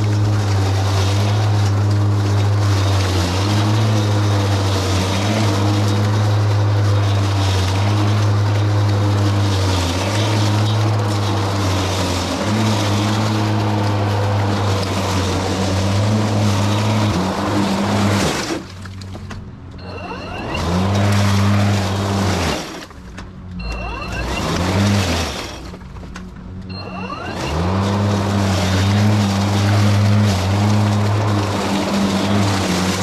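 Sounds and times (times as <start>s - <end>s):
rush of grass being cut: 0.0s - 19.2s, 19.9s - 23.0s, 23.8s - 25.8s, 26.8s - 33.0s
lawn mower motor hum: 0.0s - 33.0s.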